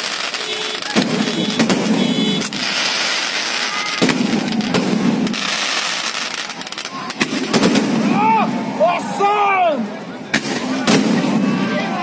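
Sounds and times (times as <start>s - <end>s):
fireworks bangs: 0.0s - 8.3s, 10.3s - 12.0s
fireworks crackling: 0.0s - 9.1s, 10.3s - 12.0s.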